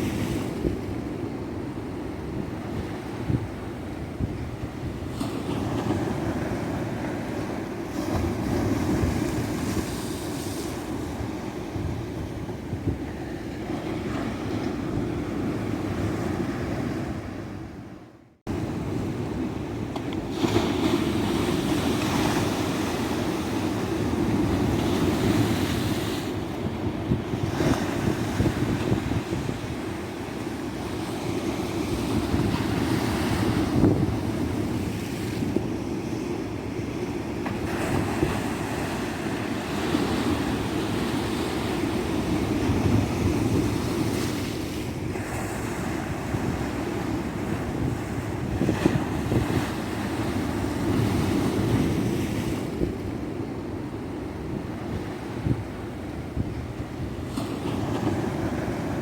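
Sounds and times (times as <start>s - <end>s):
wind buffeting microphone: 0.0s - 17.8s, 18.5s - 59.0s
waves breaking on a beach: 0.0s - 59.0s.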